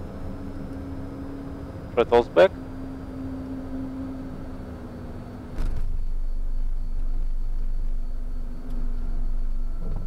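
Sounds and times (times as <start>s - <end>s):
jet engines idling: 0.0s - 10.0s.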